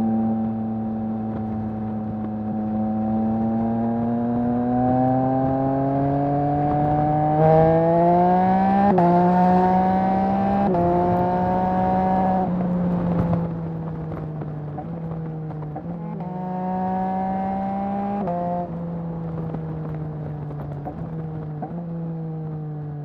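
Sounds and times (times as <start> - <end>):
motorcycle engine revving: 0.0 - 14.1, 14.7 - 20.0.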